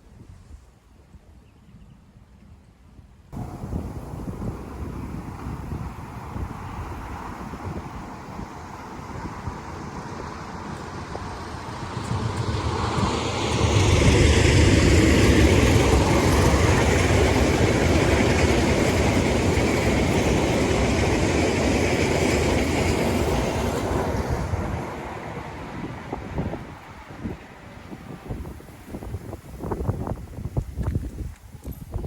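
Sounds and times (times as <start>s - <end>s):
train passing rumble: 3.4s - 31.4s.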